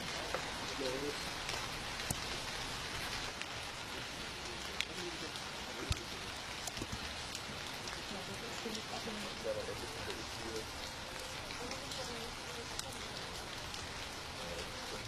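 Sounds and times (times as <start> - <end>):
rain hissing on street: 0.0 - 15.0
sharp ticks of raindrops: 0.0 - 15.0.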